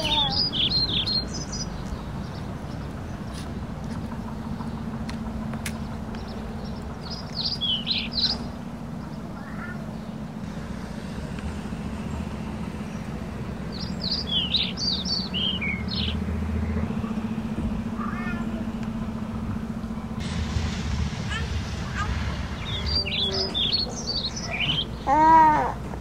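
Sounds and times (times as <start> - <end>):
bird chirping: 0.0 - 5.0, 5.6 - 10.4, 11.6 - 20.2, 22.0 - 25.2
low outdoor rumble: 0.0 - 26.0
steady low hum: 0.0 - 26.0.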